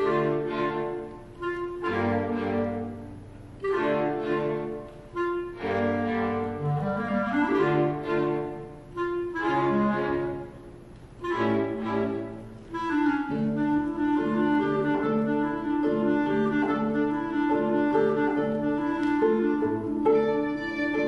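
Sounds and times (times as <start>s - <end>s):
clarinet and string quartet: 0.0s - 21.0s.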